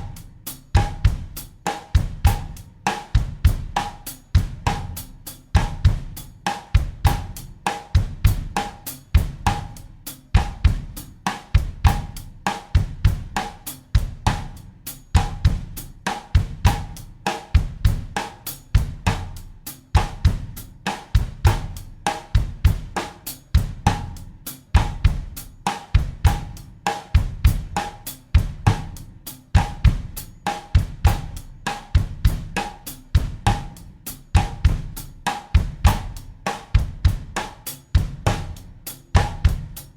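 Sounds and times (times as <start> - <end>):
drum kit bossa nova groove: 0.0 - 39.9.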